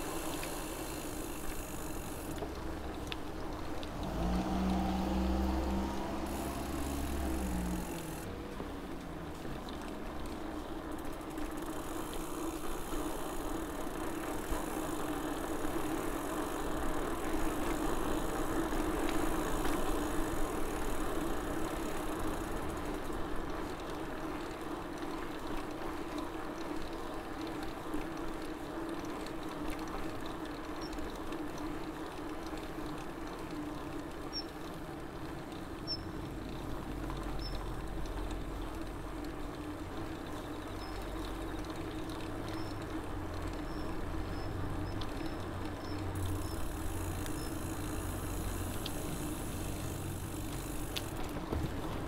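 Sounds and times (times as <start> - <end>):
faint ticks: 0.0 - 51.4
bicycle tyre and drivetrain hum: 0.0 - 52.0.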